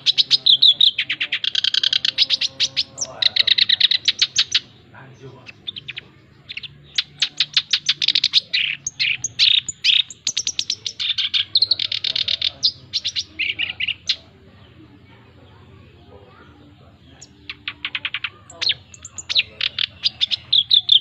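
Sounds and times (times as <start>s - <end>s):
warbler singing trills: 0.0s - 21.0s.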